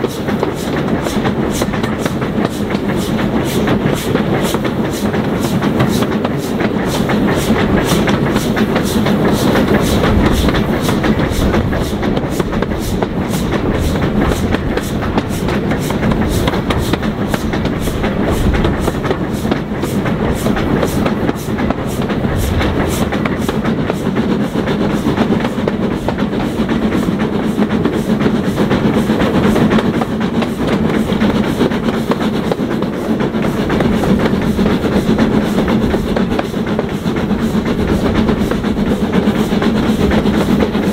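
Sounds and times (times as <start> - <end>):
steam train rhythmic clatter: 0.0 - 40.9.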